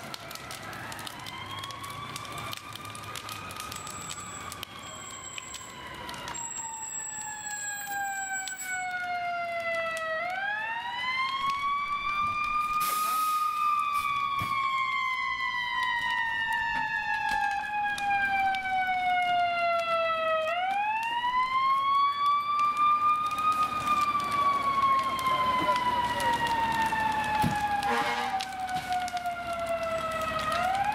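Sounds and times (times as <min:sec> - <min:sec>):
fire engine siren wailing: 0:00.0 - 0:30.9.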